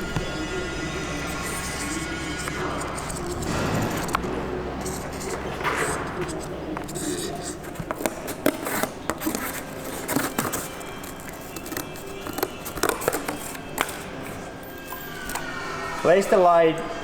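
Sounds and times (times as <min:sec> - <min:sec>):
scissors snipping paper: 0:00.0 - 0:15.4
background music: 0:00.0 - 0:17.0.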